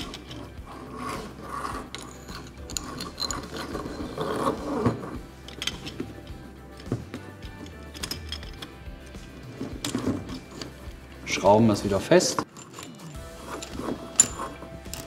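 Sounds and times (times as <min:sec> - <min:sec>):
metallic clicks and rattles: 0:00.0 - 0:00.6, 0:01.5 - 0:10.9, 0:12.3 - 0:15.0.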